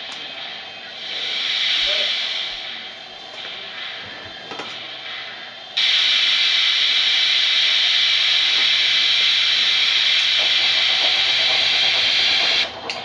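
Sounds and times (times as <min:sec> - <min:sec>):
loud steam hiss: 0:00.0 - 0:13.0.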